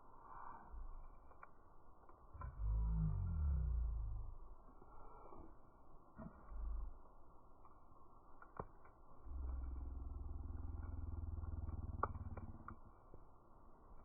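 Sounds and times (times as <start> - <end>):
low steady hum: 0.0 - 14.0
wood fire crackling: 0.0 - 14.0.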